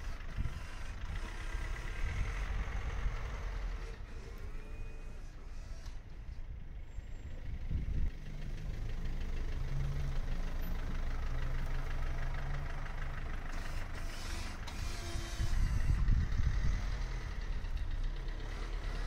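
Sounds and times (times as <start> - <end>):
diesel van engine passing: 0.0 - 5.2, 7.2 - 19.0.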